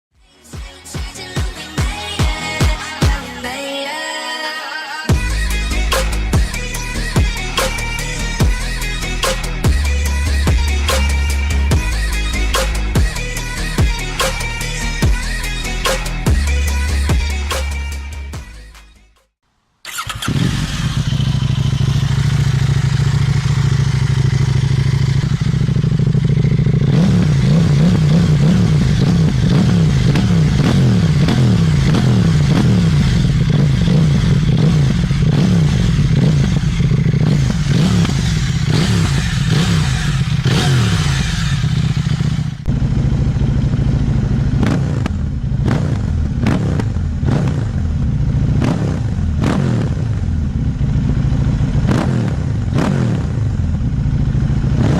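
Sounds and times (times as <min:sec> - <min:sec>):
motorcycle engine revving: 0:05.1 - 0:18.7, 0:19.8 - 0:54.9.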